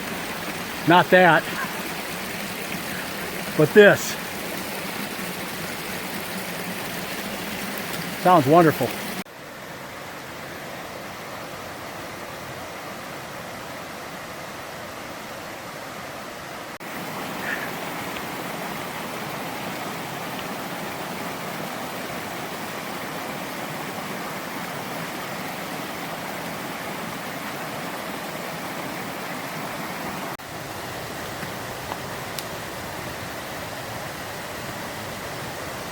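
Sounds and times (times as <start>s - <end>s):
mountain stream rushing: 0.0s - 35.9s.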